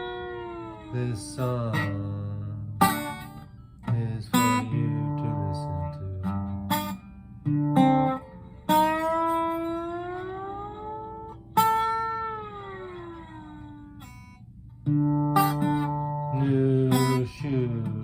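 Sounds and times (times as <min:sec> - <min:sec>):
guitar plucked notes: 0:00.0 - 0:18.0.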